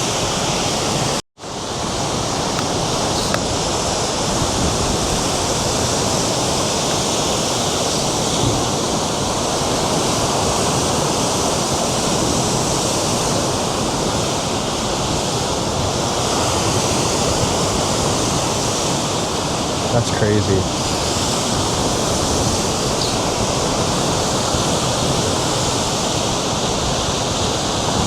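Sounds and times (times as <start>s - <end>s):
waves breaking on shore: 0.0s - 28.0s
wind on microphone: 0.0s - 28.0s.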